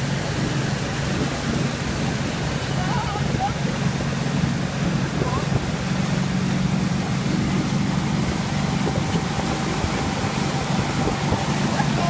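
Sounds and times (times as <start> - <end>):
boat engine running: 0.0 - 12.0
rushing wake and spray: 0.0 - 12.0.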